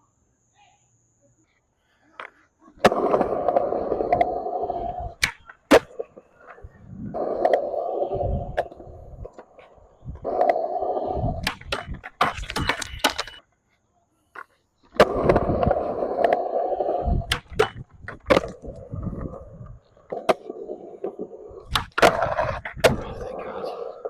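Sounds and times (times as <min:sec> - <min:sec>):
skateboard rolling over concrete: 0:02.2 - 0:13.4, 0:14.3 - 0:24.0
skateboard tail popping and landing: 0:02.2 - 0:13.4, 0:14.3 - 0:24.0.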